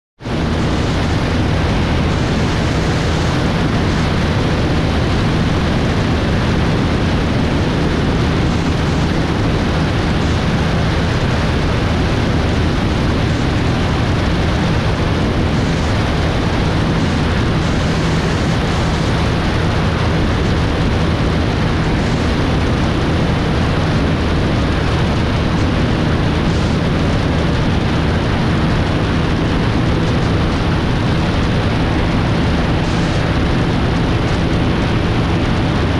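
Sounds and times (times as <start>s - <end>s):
aircraft engine and propeller drone: 0.2s - 35.9s
airflow rushing over camera: 0.2s - 35.9s.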